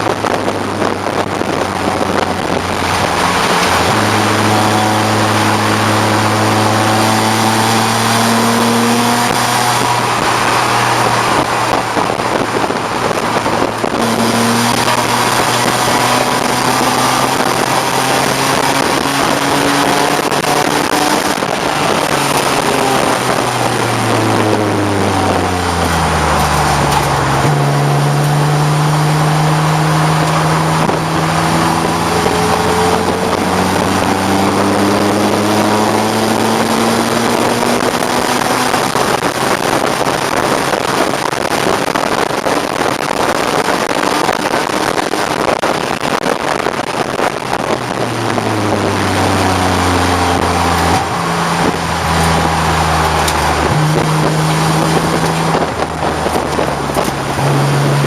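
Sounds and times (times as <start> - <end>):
race car engine revving: 0.0 - 58.0
steady rush of noise: 0.0 - 58.0.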